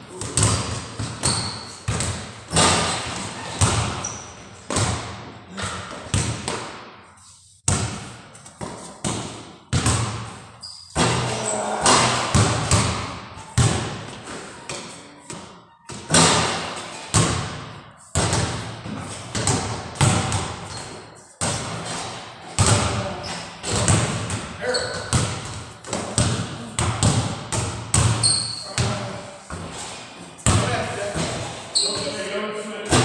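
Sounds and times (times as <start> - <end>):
basketballs bouncing on hard floor: 0.1 - 7.0, 7.7 - 29.8, 30.4 - 32.2.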